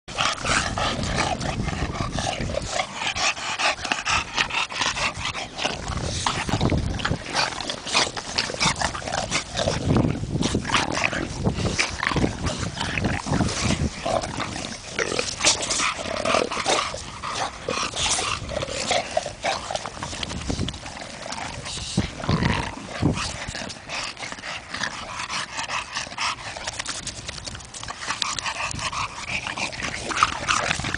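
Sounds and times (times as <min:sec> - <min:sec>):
dogs breathing: 0:00.1 - 0:30.9
dogs vocalizing: 0:00.1 - 0:30.9.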